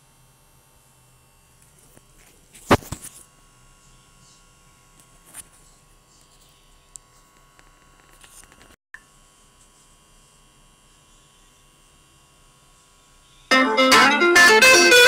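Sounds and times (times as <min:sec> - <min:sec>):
faint hum and hiss: 0:00.0 - 0:15.0.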